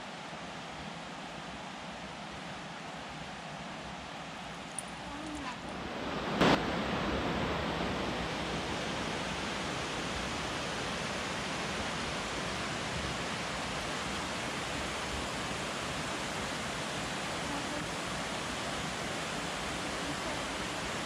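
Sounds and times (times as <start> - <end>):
stream water rushing over weir: 0.0 - 21.0.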